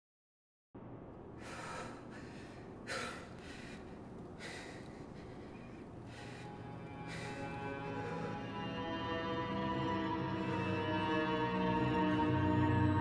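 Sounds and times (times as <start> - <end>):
low steady hum: 0.8 - 13.0
man breathing heavily: 1.4 - 11.8.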